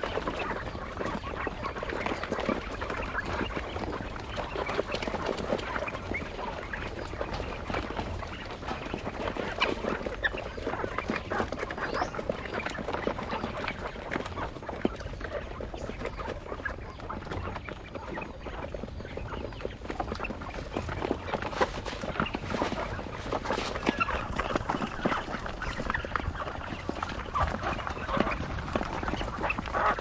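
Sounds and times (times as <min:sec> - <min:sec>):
quail chirping and chattering: 0:00.0 - 0:30.0.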